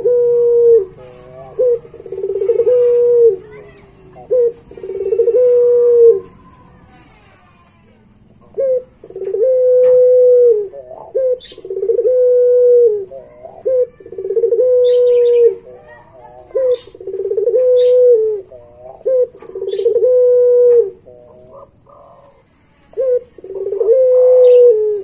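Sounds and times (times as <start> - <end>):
dove cooing: 0.0 - 6.6, 8.4 - 25.0.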